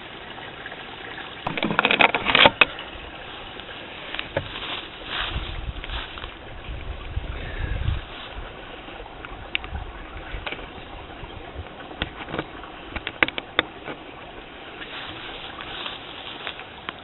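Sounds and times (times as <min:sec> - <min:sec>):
steady hiss: 0:02.6 - 0:17.0.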